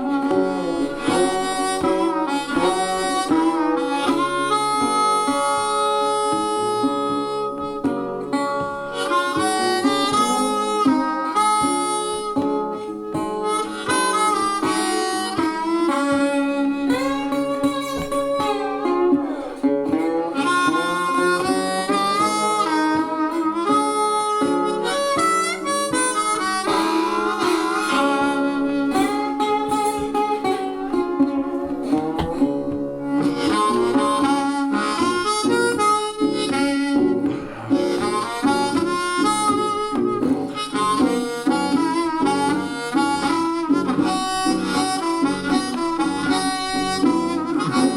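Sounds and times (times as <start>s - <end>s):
sliding lead melody: 0.0s - 47.9s
steady musical accompaniment: 0.0s - 47.9s.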